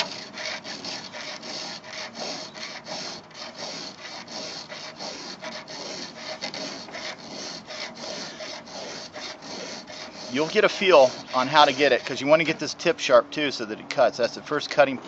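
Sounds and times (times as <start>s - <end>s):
file rasping on saw chain: 0.0s - 12.8s.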